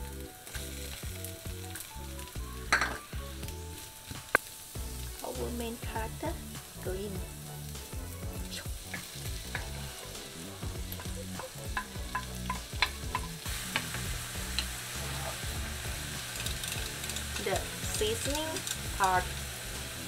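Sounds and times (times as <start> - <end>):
oil and onions sizzling: 0.0 - 20.0.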